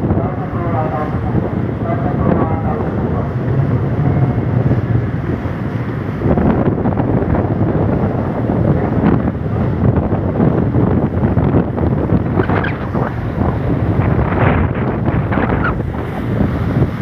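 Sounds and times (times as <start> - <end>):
rush of the sea: 0.0 - 17.0
ship running noise: 0.0 - 17.0
wind buffeting microphone: 0.0 - 17.0.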